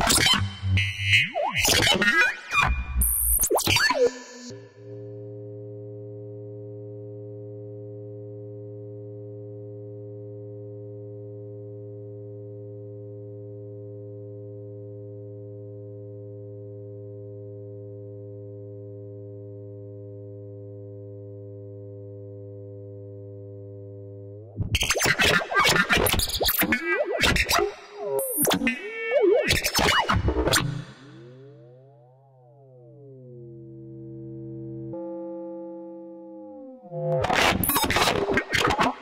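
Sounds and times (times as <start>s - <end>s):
synthesizer drone: 4.0s - 39.0s.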